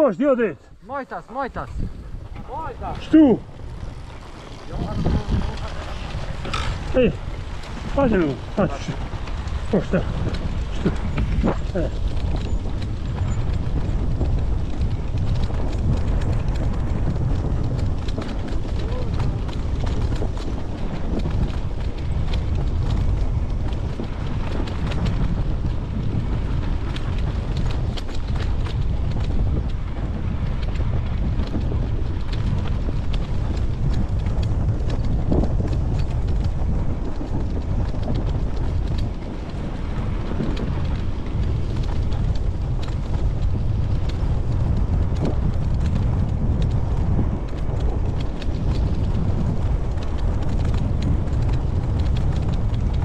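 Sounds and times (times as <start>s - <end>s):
dirt bike engine running: 0.0s - 53.0s
wind buffeting microphone: 0.0s - 53.0s.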